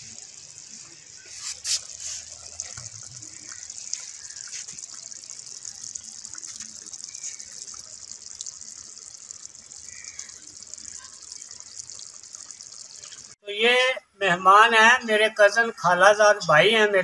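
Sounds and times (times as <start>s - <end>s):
steady high hiss: 0.0s - 13.7s.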